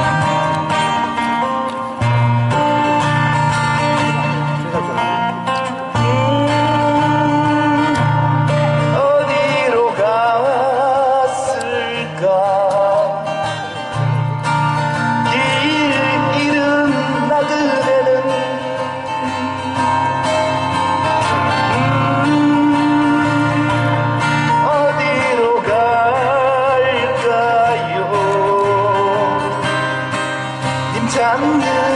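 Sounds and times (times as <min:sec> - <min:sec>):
acoustic guitars playing: 0:00.0 - 0:31.9
man singing: 0:03.0 - 0:14.2, 0:14.8 - 0:31.9.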